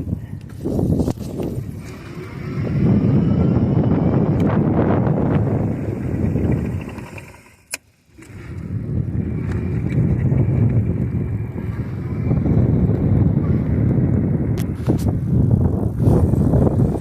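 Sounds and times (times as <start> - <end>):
road rumble: 0.0 - 17.0
wind buffeting microphone: 0.0 - 17.0.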